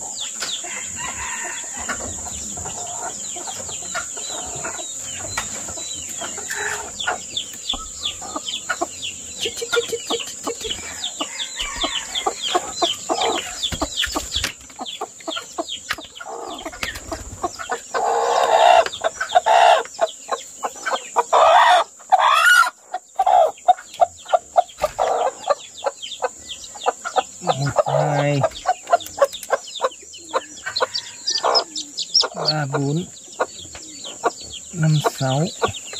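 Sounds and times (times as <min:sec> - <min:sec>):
chickens clucking: 0:00.0 - 0:35.9
chicks peeping: 0:00.0 - 0:35.9.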